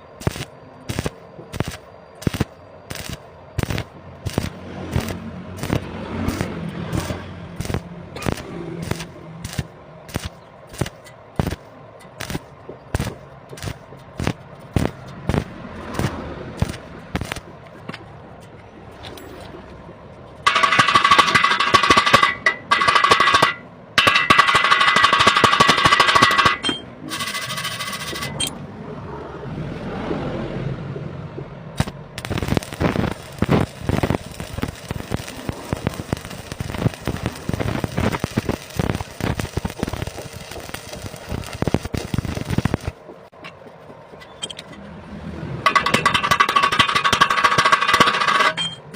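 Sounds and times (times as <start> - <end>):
welding arc crackling: 0.0 - 18.2, 20.4 - 28.5, 31.7 - 43.4, 45.6 - 48.9
steady whine: 0.0 - 48.9.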